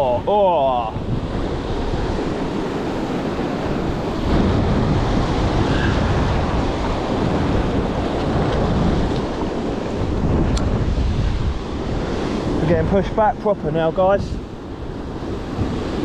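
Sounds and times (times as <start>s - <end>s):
wind buffeting microphone: 0.0s - 16.0s
surf breaking over rocks: 0.2s - 14.2s.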